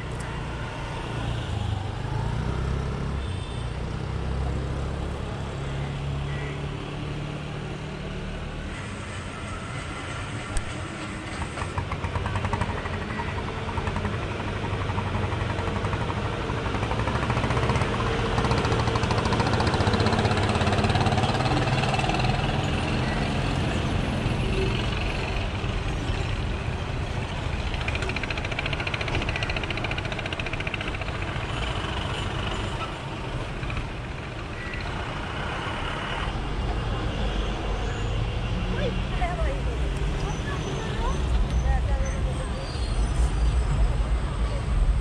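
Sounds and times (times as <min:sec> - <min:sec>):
diesel engines rumbling: 0:00.0 - 0:45.0.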